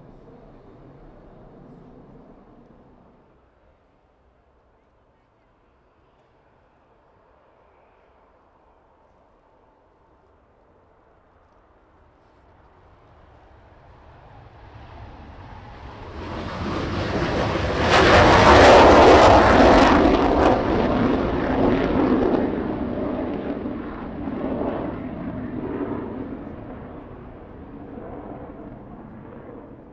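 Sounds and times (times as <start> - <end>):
jet engines on afterburner: 0.0 - 4.8, 5.6 - 29.9.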